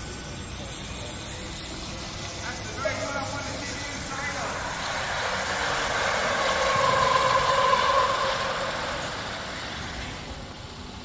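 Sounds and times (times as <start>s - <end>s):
electric truck whine: 0.0s - 11.0s.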